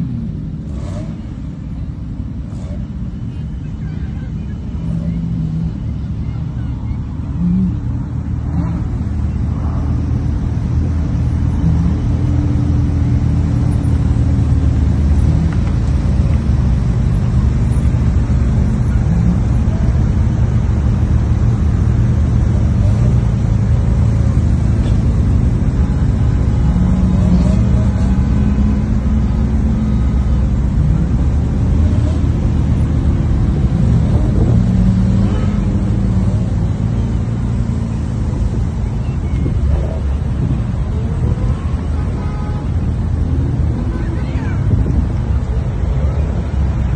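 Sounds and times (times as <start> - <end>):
car engines rumbling: 0.0 - 46.9
engine revs: 0.0 - 46.9.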